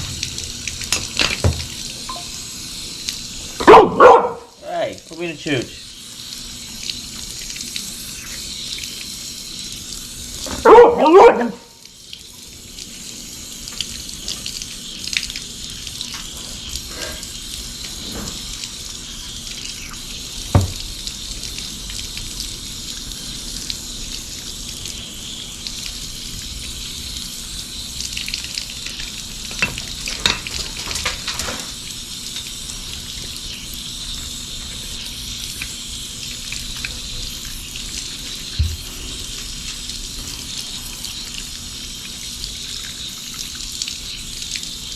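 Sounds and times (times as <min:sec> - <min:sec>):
water running: 0:00.0 - 0:44.9.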